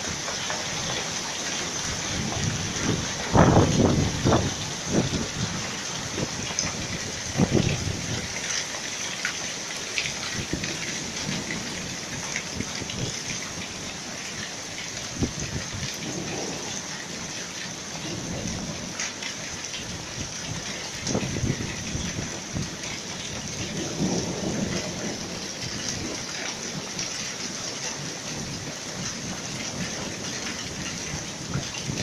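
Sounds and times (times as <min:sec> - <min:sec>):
hail falling: 0:00.0 - 0:32.0.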